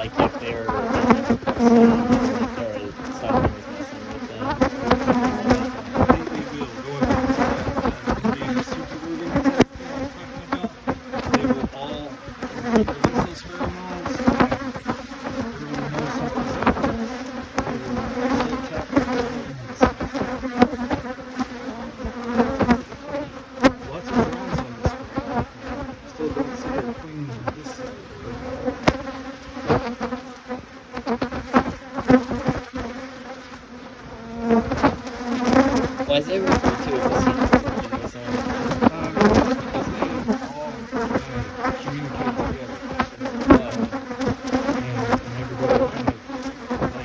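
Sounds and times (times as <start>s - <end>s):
honeybees buzzing: 0.0s - 47.0s.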